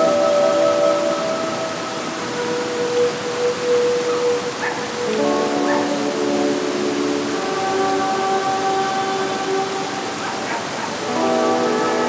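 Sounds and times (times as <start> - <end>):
flowing stream: 0.0 - 12.0
soft background music: 0.0 - 12.0.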